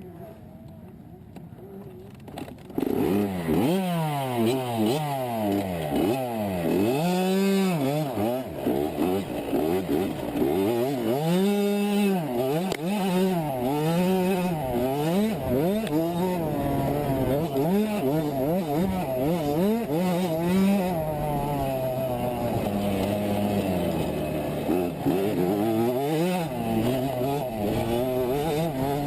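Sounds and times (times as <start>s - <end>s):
motorbike engine revving: 2.2s - 29.0s.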